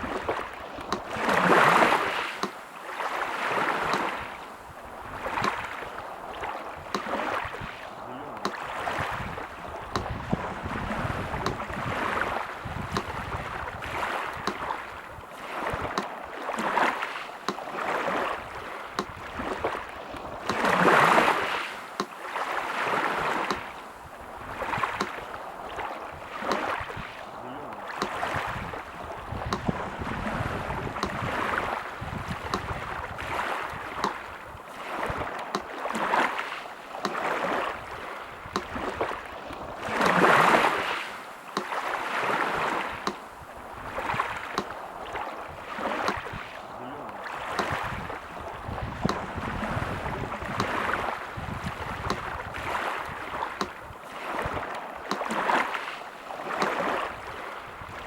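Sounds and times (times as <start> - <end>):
sea surf washing in: 0.0 - 58.0.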